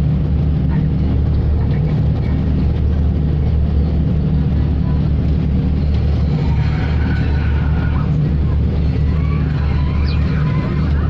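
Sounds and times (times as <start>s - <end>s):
ship engine droning: 0.0s - 11.0s.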